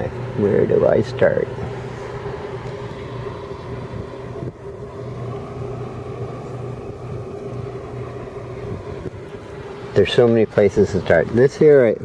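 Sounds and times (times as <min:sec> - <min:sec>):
outdoor noise: 0:00.0 - 0:12.0
steady mechanical engine drone: 0:00.0 - 0:12.0.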